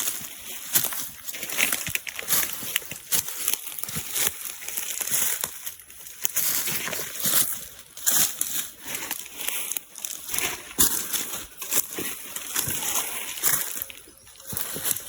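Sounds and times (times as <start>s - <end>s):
vegetation rustling and crunching: 0.0s - 15.0s.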